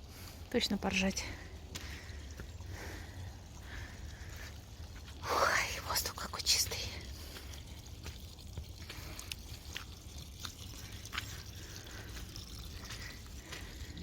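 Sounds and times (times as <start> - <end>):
water dripping: 0.0 - 14.0.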